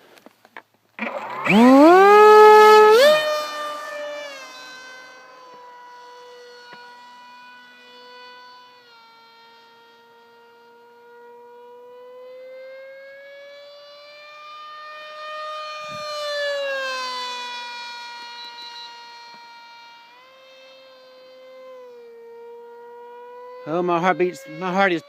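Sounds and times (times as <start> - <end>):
model airplane motor whining: 0.0 - 25.0.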